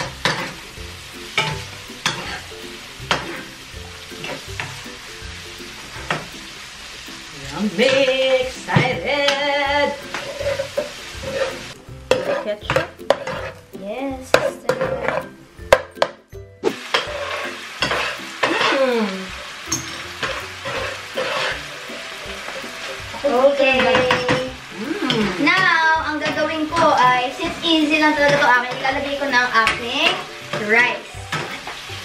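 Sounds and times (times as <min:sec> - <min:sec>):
utensils scraping frying pans: 0:00.0 - 0:04.9, 0:07.6 - 0:13.7, 0:14.3 - 0:16.1, 0:16.8 - 0:32.0
food sizzling in oil: 0:00.0 - 0:32.0.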